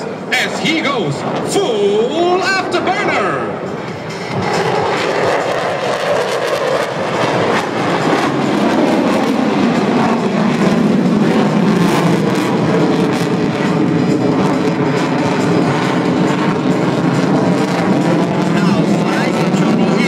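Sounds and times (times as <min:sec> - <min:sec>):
jet engines in afterburner: 0:00.0 - 0:20.0.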